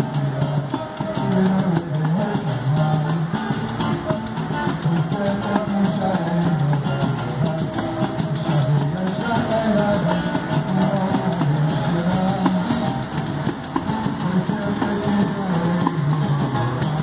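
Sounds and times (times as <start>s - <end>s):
acoustic guitar playing: 0.0s - 17.0s
hand drums beating: 0.0s - 17.0s.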